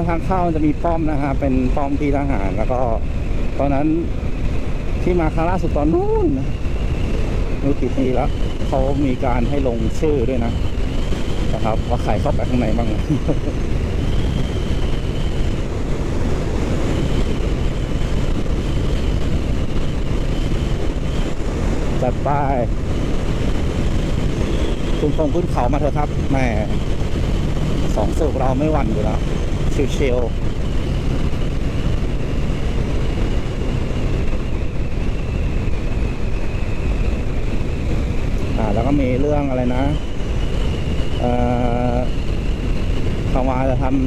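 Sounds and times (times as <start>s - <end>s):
motorcycle engine running: 0.0s - 44.0s
wind rushing over microphone: 0.0s - 44.0s.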